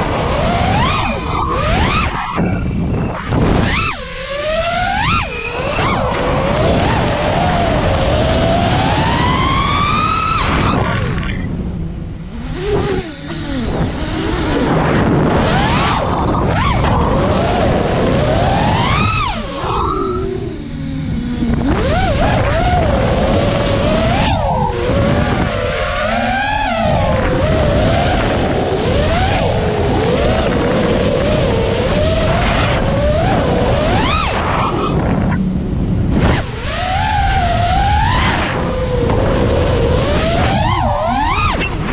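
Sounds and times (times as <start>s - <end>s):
drone motors whining: 0.0s - 41.9s
wind rushing on microphone: 0.0s - 41.9s.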